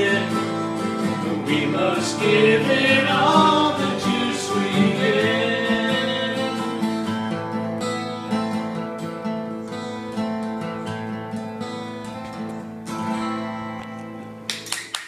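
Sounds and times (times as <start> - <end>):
acoustic guitars strumming: 0.0 - 14.6.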